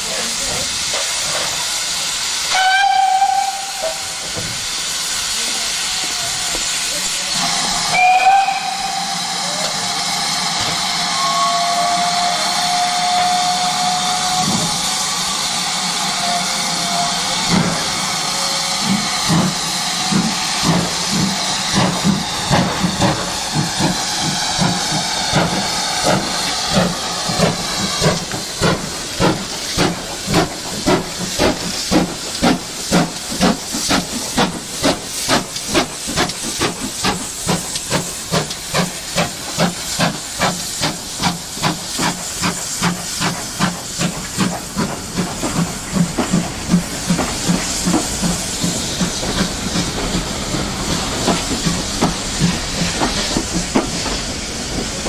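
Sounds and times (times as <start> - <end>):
loud steam hiss: 0.0 - 55.0
steam locomotive exhaust beating: 0.0 - 55.0.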